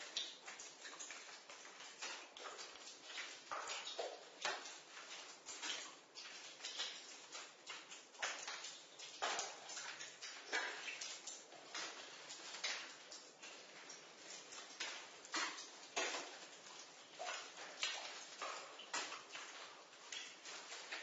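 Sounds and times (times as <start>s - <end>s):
water dripping: 0.0s - 21.0s.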